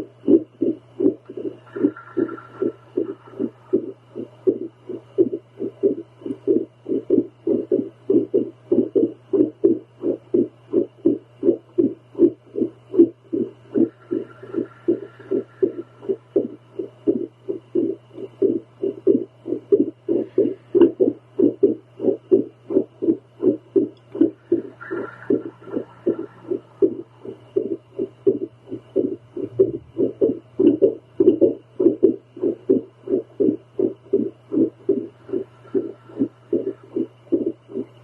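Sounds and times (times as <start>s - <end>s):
heartbeat pulses on doppler: 0.0s - 38.0s
steady low hum: 0.0s - 38.0s.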